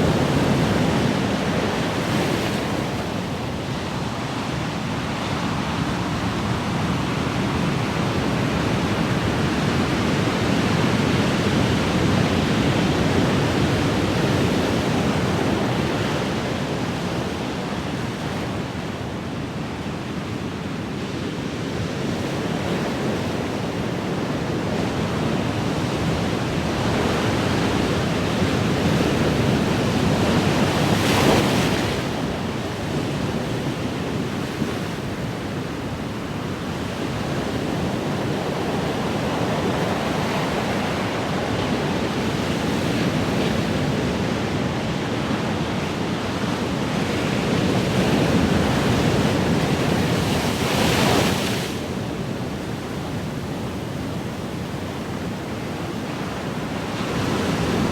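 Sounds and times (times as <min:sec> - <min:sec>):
large waves breaking: 0:00.0 - 0:57.9.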